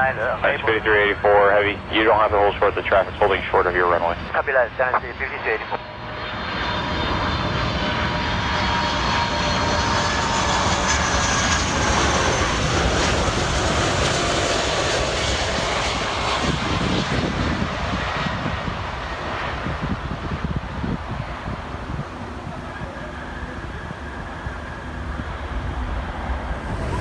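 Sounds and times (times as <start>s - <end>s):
high engine whine: 0.0s - 27.0s
jet engines roaring: 0.0s - 27.0s.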